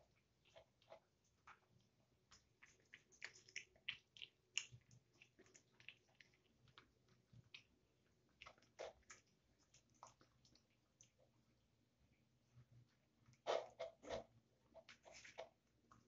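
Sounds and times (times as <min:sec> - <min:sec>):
kitten chewing wet food: 0:00.0 - 0:16.0.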